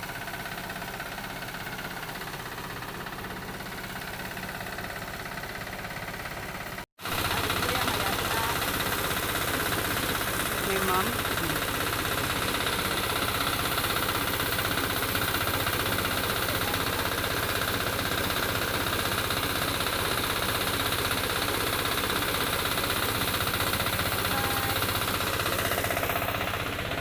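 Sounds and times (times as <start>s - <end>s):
harvesting machine engine running: 0.0s - 27.0s.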